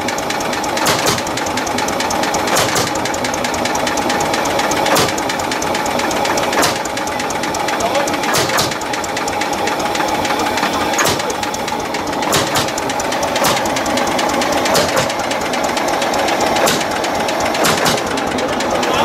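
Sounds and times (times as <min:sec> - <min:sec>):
tractor engine knocking: 0:00.0 - 0:19.0.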